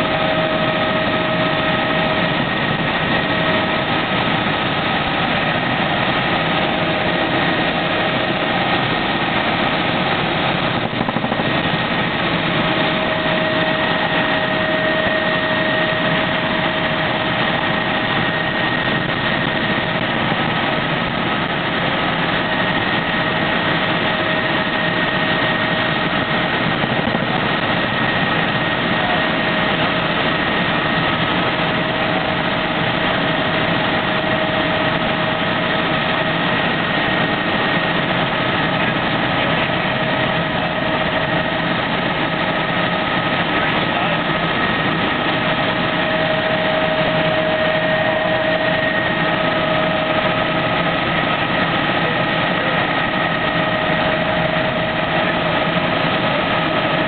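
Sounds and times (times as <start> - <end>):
helicopter engine and rotor drone: 0.0 - 57.0
steady whining tones: 0.0 - 57.0.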